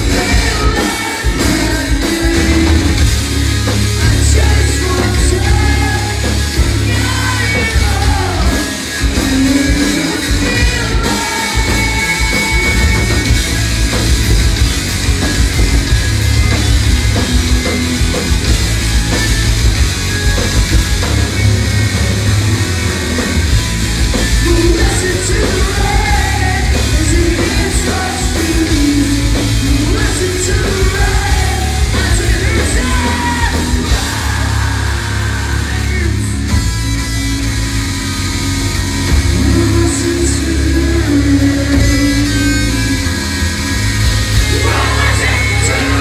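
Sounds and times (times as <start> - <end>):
lead vocal singing and shouting: 0.0 - 36.9, 39.2 - 46.0
live rock band: 0.0 - 46.0.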